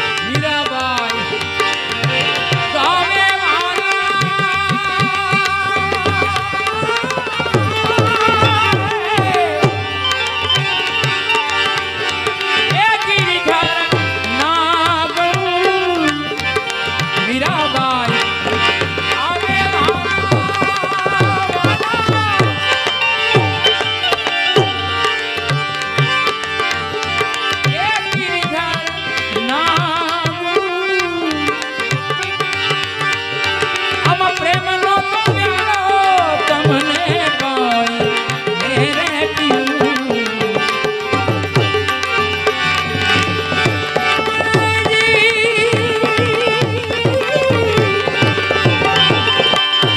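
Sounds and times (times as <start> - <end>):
tabla drumming: 0.0 - 49.9.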